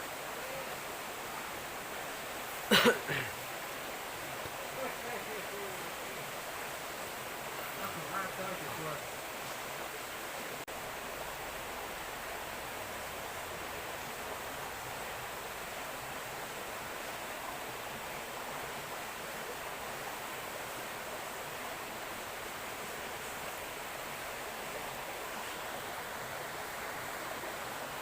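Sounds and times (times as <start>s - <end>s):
shallow river flowing over stones: 0.0s - 28.0s.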